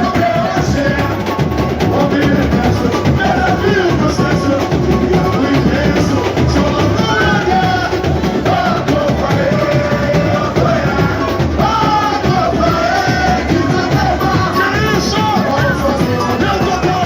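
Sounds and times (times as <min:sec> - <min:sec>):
dense samba drumming: 0:00.0 - 0:17.0.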